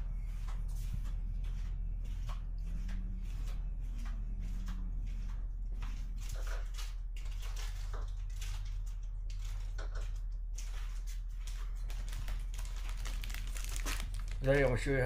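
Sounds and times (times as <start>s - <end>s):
rustling and knocks of handled items: 0.0s - 14.5s
steady low hum: 0.0s - 15.0s.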